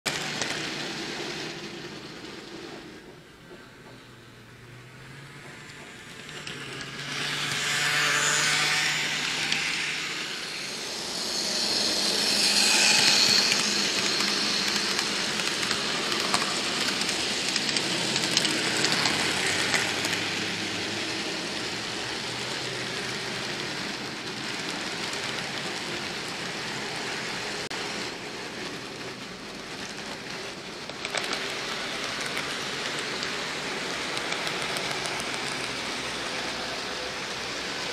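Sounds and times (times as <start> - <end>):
model train passing: 0.1 - 37.9
model train wheels rattling: 5.4 - 27.7, 28.9 - 37.1.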